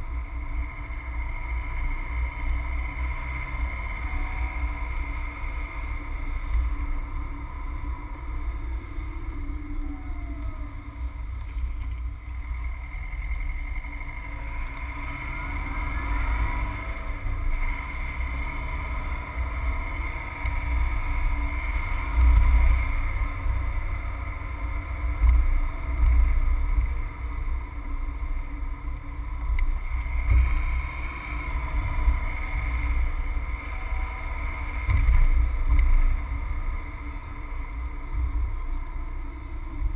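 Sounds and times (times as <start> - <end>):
car engine and tyre rumble: 0.0 - 39.9
faint hum: 0.0 - 39.9.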